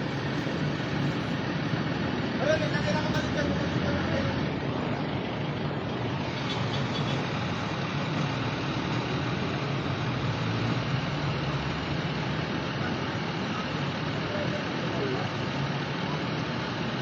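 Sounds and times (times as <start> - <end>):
traffic engines idling: 0.0 - 17.0.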